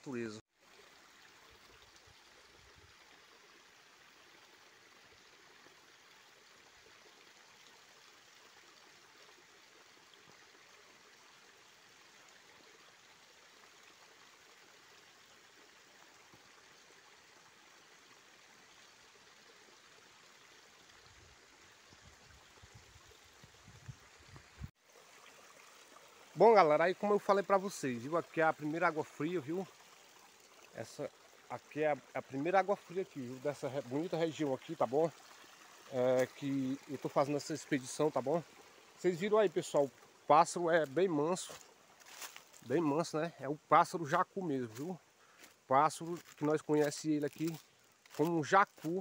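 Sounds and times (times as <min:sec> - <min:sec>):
forest stream running into pool: 0:00.0 - 0:49.0.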